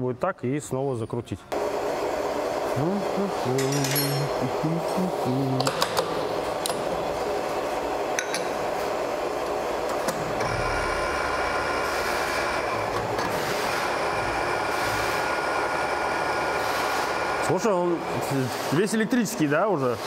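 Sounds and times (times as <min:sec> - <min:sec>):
workshop machinery humming: 0:01.5 - 0:20.0.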